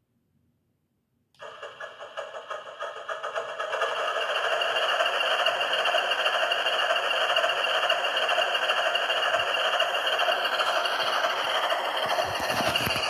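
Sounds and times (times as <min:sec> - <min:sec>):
diesel engine sound from small speaker: 0:01.4 - 0:13.0
model locomotive motors running: 0:01.4 - 0:13.0.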